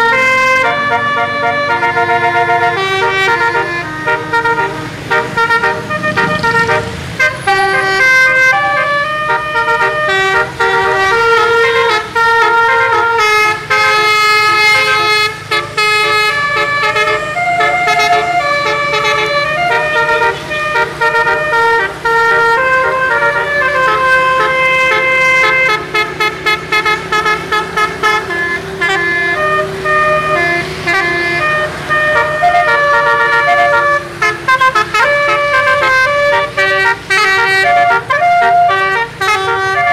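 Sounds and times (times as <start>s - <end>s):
musical bus air horn melody: 0.0s - 39.9s.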